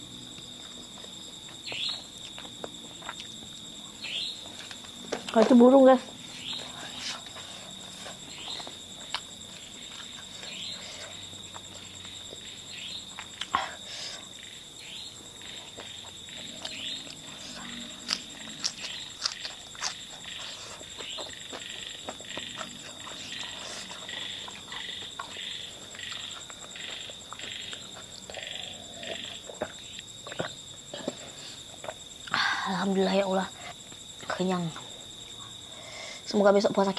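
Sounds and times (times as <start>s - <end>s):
night insects trilling: 0.0s - 36.9s.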